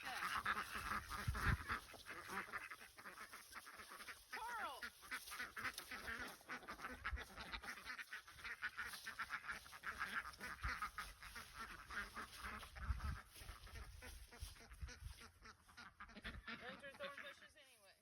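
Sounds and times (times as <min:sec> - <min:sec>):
ducks quacking: 0:00.0 - 0:17.8.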